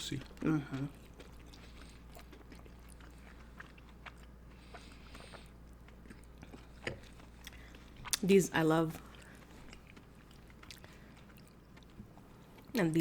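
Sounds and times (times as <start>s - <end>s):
soft chewing: 0.0s - 13.0s.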